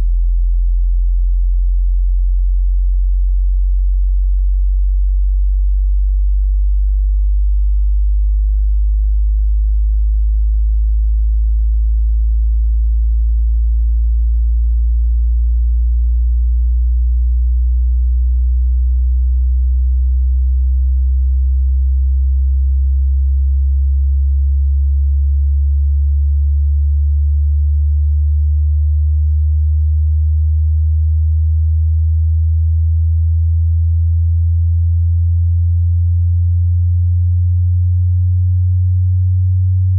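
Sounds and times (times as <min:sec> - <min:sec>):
low sine tone rising: 0:00.0 - 0:39.9.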